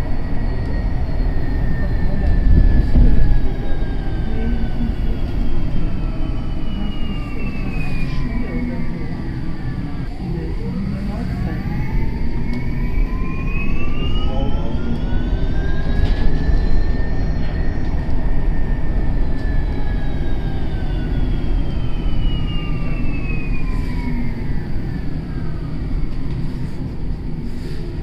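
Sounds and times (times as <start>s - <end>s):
bus engine whine: 0.0s - 28.0s
bus low rumble: 0.0s - 28.0s.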